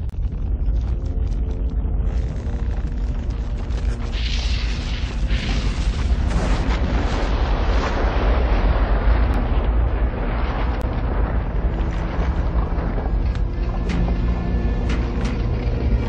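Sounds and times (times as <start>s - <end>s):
rumbling and rushing noise: 0.0s - 16.0s.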